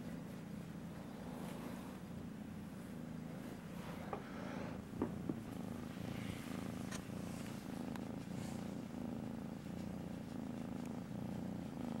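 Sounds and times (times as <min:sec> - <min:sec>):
kitten purring: 0:00.0 - 0:12.0.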